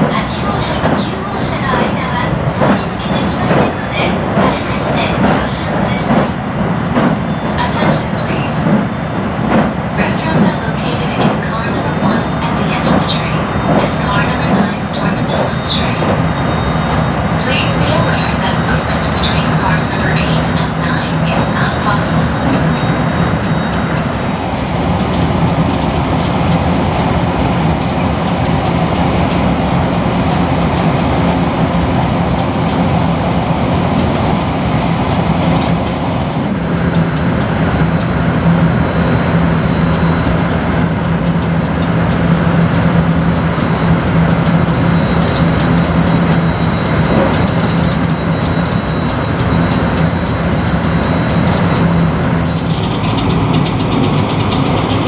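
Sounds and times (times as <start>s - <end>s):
wheel and rail running noise: 0.0s - 55.0s.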